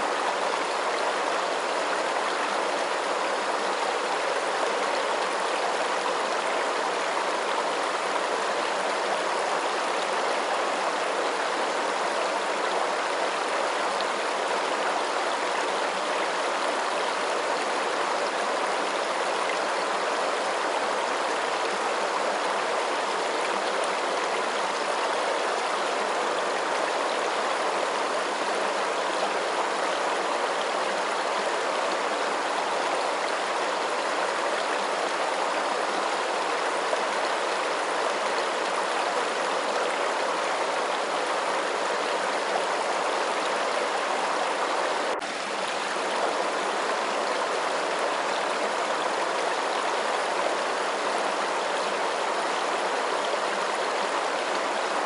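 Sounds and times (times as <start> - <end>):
water flowing: 0.0 - 55.0.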